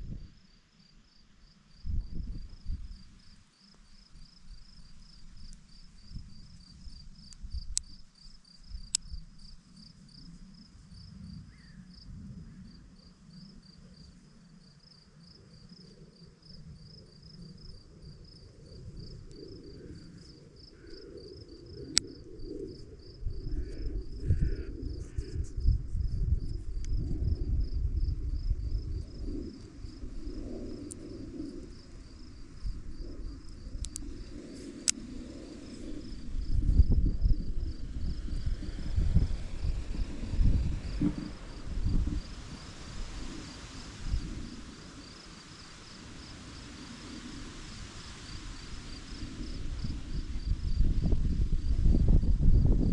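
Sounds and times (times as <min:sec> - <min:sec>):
cricket chirping: 0:00.0 - 0:52.9.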